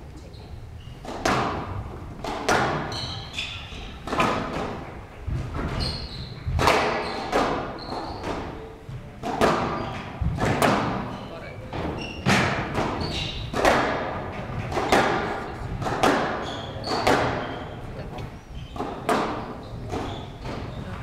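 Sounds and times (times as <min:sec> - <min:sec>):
court shoes squeaking: 0:00.0 - 0:21.0
squash ball racket and wall strikes: 0:01.0 - 0:08.6, 0:09.2 - 0:17.8, 0:18.6 - 0:20.8.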